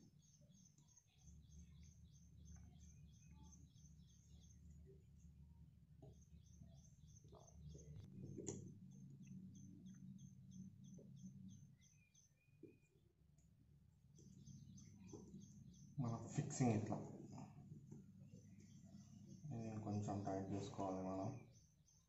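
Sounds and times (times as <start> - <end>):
low steady hum: 0.0 - 21.5
small bird chirping: 0.0 - 22.0.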